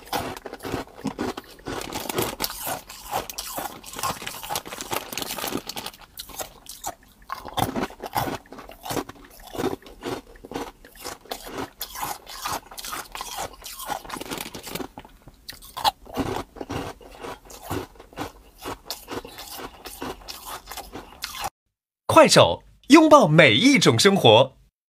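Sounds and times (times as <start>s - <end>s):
chewing ice cubes crunching: 0.0s - 21.5s.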